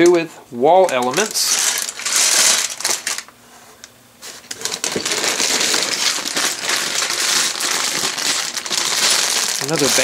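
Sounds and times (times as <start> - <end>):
plastic bags crinkling: 0.8 - 3.4, 4.2 - 10.0.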